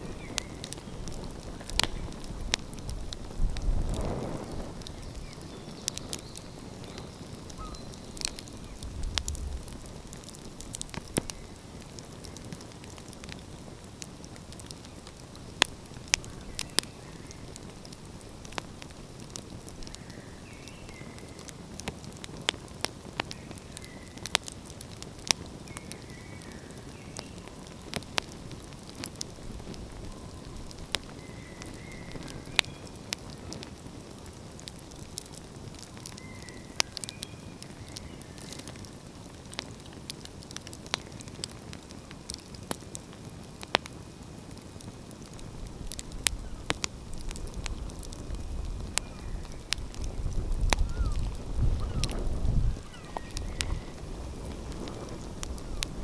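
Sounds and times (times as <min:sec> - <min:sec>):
wood fire crackling: 0:00.0 - 0:56.0
sharp pops and snaps: 0:00.1 - 0:43.9, 0:44.5 - 0:56.0.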